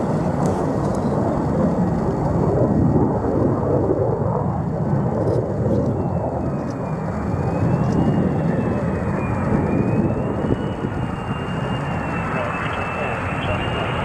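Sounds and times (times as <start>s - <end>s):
jet engine roaring: 0.0s - 14.0s.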